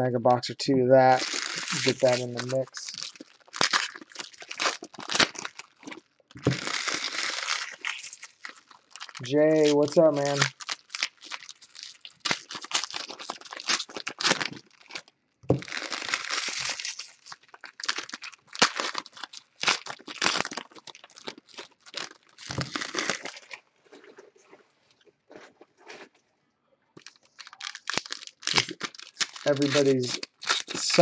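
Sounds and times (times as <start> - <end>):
plastic wrapping crinkling and tearing: 1.0 - 24.6, 27.0 - 31.0.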